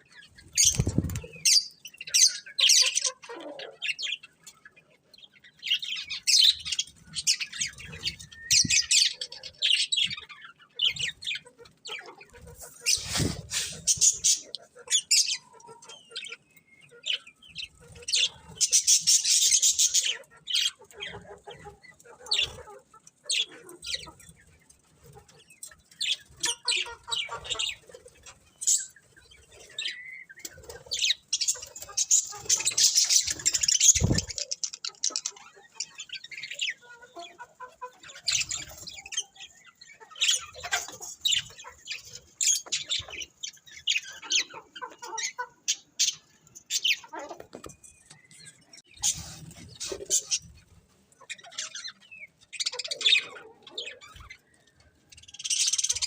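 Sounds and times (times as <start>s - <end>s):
budgerigars chirping and chattering: 0.0s - 56.0s.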